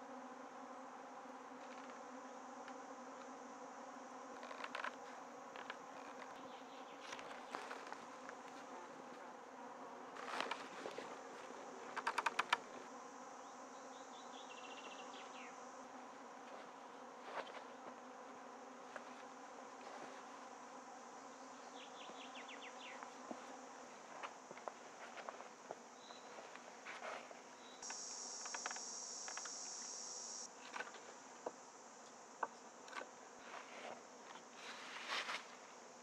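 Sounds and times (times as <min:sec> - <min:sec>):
flying insects buzzing: 0:00.0 - 0:36.0.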